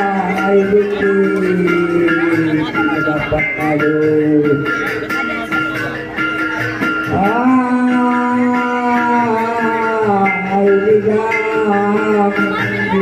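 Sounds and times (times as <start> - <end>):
person singing long ornamented note: 0.0 - 4.7, 7.1 - 13.0.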